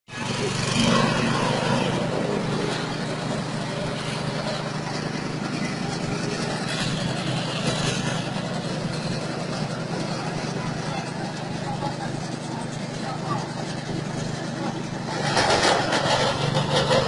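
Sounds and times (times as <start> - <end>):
engine droning: 0.1 - 17.0.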